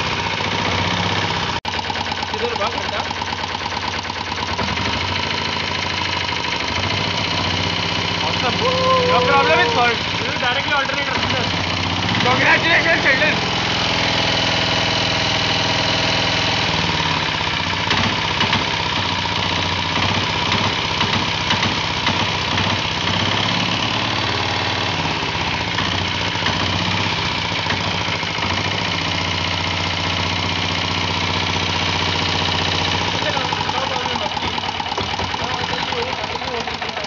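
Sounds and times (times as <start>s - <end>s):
diesel motorcycle engine idling: 0.0s - 37.0s.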